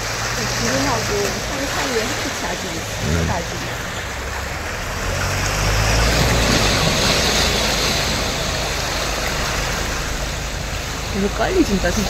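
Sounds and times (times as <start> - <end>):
low engine hum: 0.0 - 12.0
sea waves rushing: 0.0 - 12.0.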